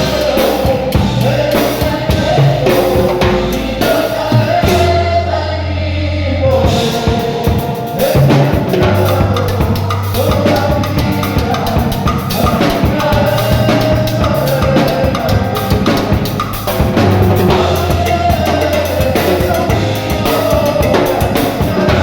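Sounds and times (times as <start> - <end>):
drum kit steady beat: 0.0 - 5.1, 6.6 - 22.0
bass line low notes: 0.0 - 22.0.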